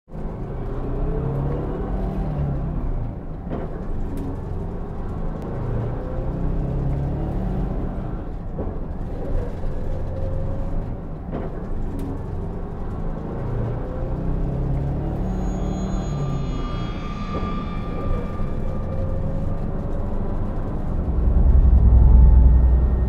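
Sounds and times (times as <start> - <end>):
bus engine and road rumble: 0.1 - 23.0.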